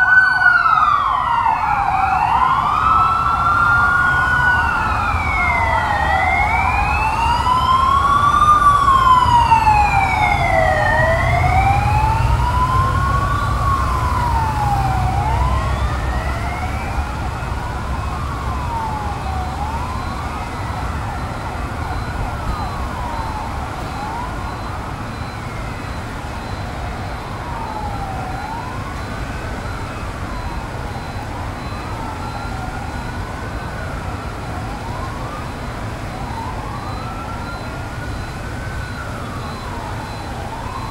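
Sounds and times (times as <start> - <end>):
low traffic rumble: 0.0 - 40.9
police sirens wailing: 0.0 - 40.9.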